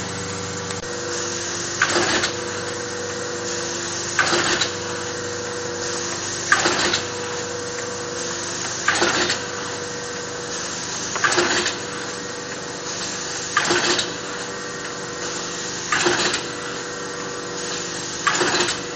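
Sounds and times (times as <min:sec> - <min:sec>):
paper-handling machine humming: 0:00.0 - 0:18.9
rushing clatter of machine: 0:00.0 - 0:18.9.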